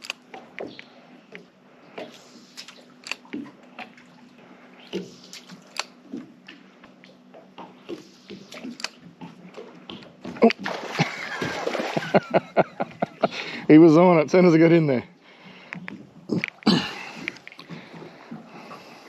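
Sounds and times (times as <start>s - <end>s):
water dripping and lapping: 0.0s - 13.7s, 15.2s - 19.0s.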